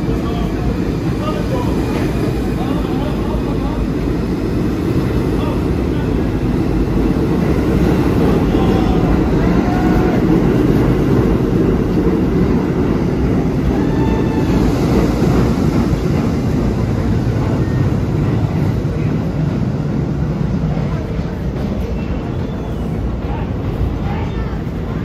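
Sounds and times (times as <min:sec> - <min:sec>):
subway train rumbling past: 0:00.0 - 0:25.0.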